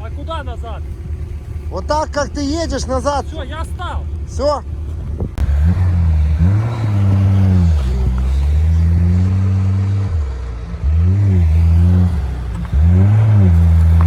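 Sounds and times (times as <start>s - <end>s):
vehicle engine revving under load: 0.0s - 14.0s.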